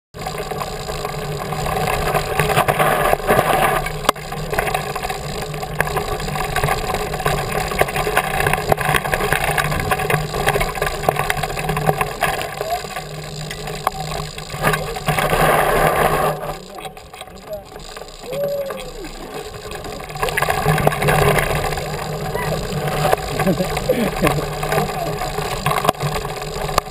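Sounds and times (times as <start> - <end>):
bike tyres rumbling on gravel: 0.2 - 26.9.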